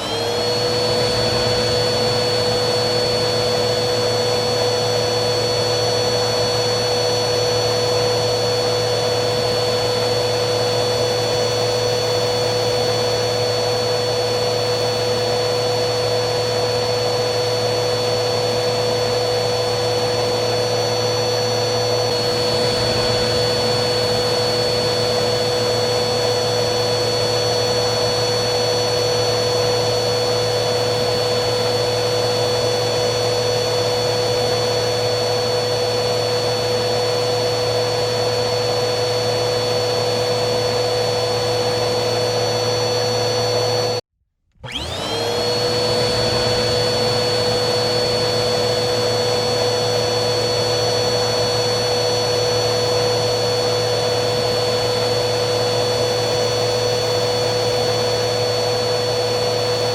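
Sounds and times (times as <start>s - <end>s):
vacuum cleaner motor whining: 0.0s - 59.9s.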